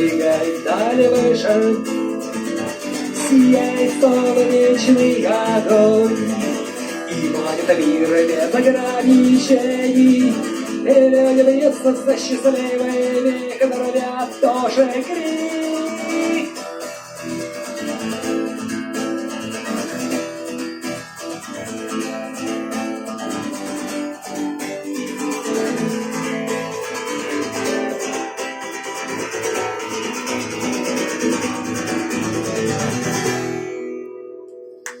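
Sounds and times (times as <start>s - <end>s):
strummed and plucked guitar music: 0.0s - 35.0s.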